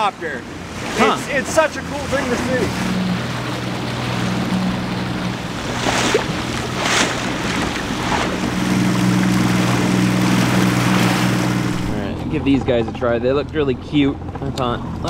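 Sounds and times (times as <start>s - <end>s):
water splashes: 0.0s - 12.8s
outboard motor humming: 0.0s - 15.0s
water rushing along hull: 0.0s - 15.0s.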